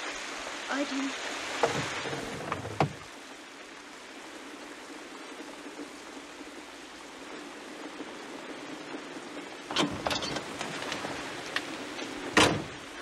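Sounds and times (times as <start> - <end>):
heavy rain on a car: 0.0 - 13.0.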